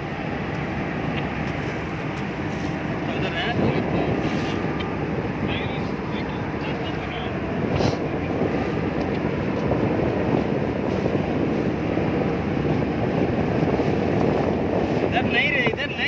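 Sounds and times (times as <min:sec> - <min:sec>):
boat engine rumble: 0:00.0 - 0:16.0
water rushing past hull: 0:00.0 - 0:16.0
wind on microphone: 0:00.0 - 0:16.0.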